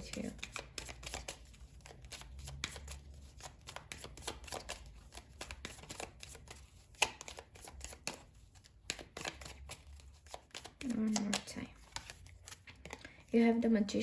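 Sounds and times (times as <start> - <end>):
cards being shuffled: 0.0 - 13.4.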